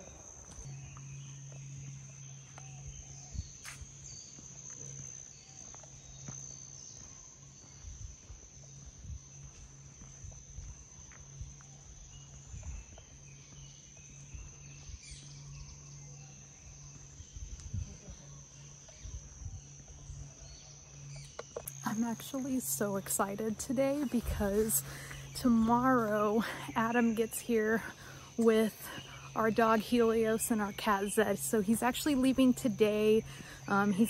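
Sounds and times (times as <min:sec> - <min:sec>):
footsteps on a trail: 0:00.0 - 0:15.6, 0:18.8 - 0:34.0
high-pitched insect trill: 0:00.0 - 0:34.0.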